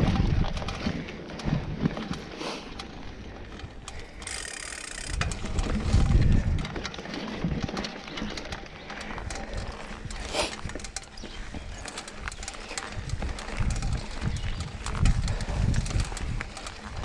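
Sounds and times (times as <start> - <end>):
bike rattling and knocking: 0.0 - 17.0
bike tyres on rough ground: 0.0 - 17.0.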